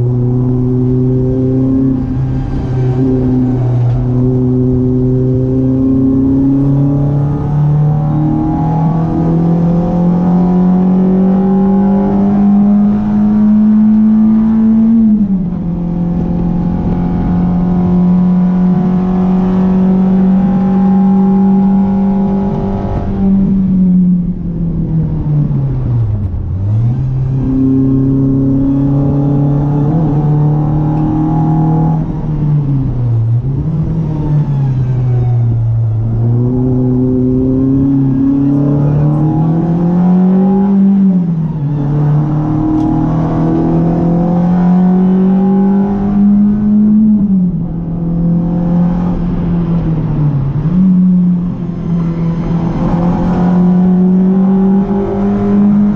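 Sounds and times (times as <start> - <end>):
car engine at high revs: 0.0 - 55.9.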